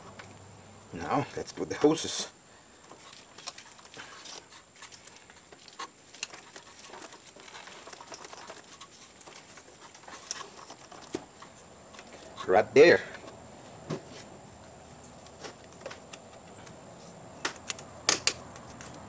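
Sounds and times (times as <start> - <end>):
faint clicks and rustling: 1.4 - 19.0.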